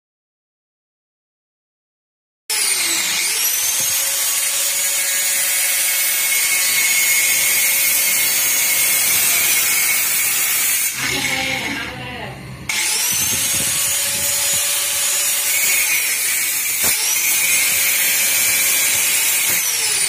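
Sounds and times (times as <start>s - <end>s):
angle grinder whining: 2.5s - 20.0s.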